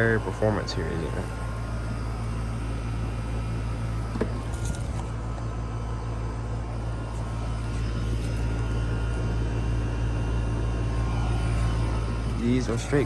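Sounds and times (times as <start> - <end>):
compressor hum: 0.0 - 13.0
fan noise: 0.0 - 13.0.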